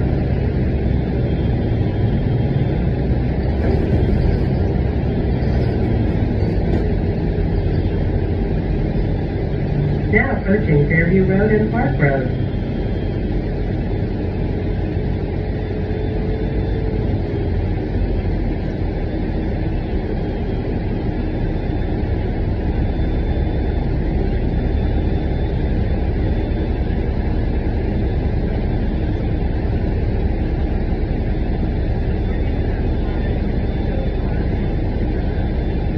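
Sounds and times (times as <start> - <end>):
bus engine and road noise: 0.0 - 35.9
faint whine: 0.0 - 35.9.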